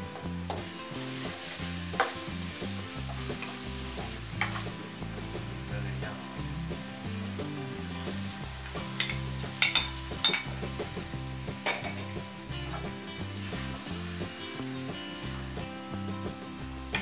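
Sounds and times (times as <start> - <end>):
curry paste sizzling in a wok: 0.0 - 17.0.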